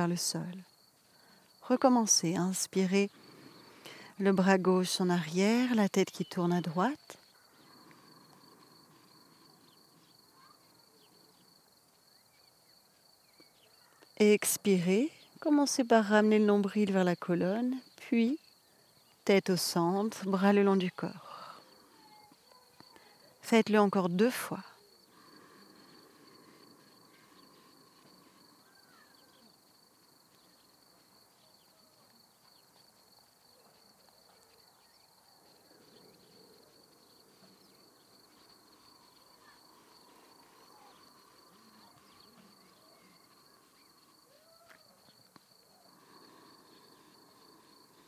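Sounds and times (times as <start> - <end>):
cricket trill: 0.0 - 48.0.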